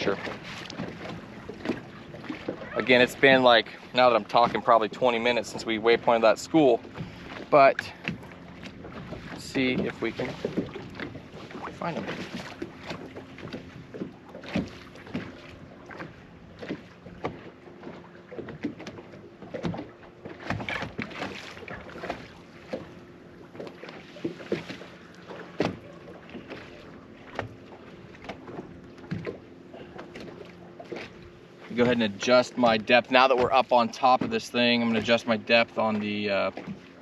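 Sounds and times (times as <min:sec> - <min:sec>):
water lapping against hull: 0:00.0 - 0:37.0.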